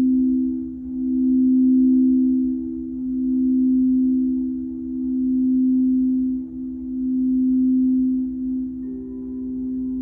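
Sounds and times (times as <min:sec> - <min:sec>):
crystal singing bowls: 0:00.0 - 0:10.0.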